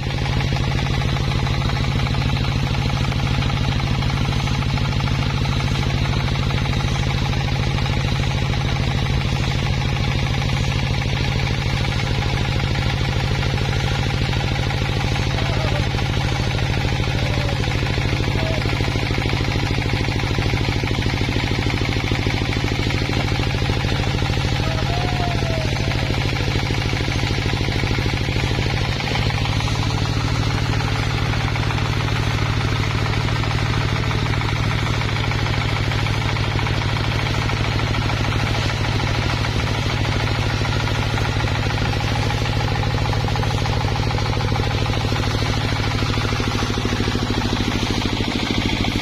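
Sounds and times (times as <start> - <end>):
machine engine droning: 0.0 - 49.0.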